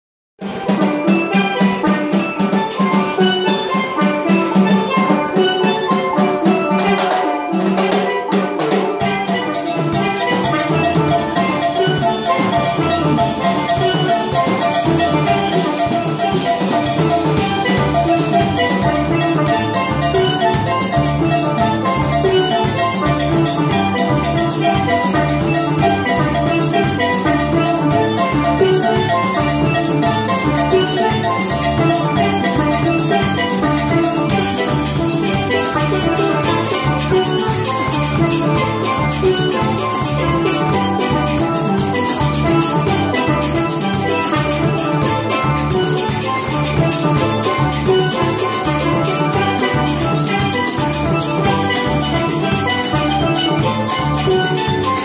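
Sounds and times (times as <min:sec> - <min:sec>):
drum kit beat: 0:00.4 - 0:55.0
steel band playing: 0:00.4 - 0:55.0.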